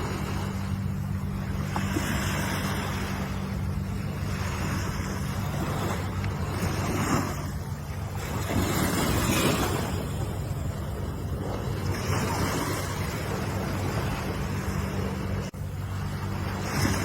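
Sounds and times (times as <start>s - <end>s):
low hum: 0.0s - 17.0s
ocean waves washing: 0.0s - 17.0s.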